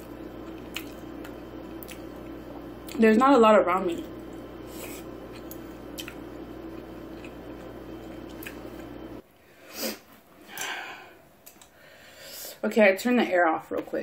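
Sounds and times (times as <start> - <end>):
air conditioning humming: 0.0 - 14.0.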